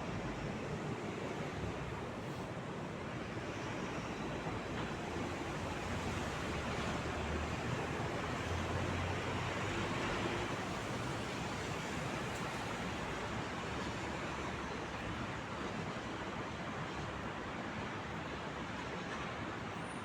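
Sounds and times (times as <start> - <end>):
distant city traffic: 0.0 - 20.0.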